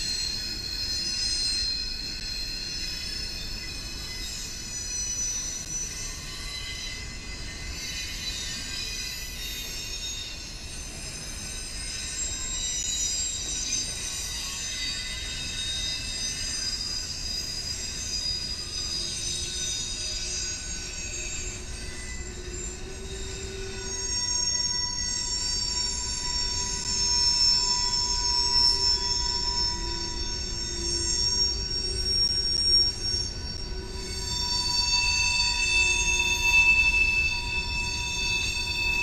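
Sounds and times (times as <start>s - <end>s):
train wheels squealing on rails: 0.0s - 39.0s.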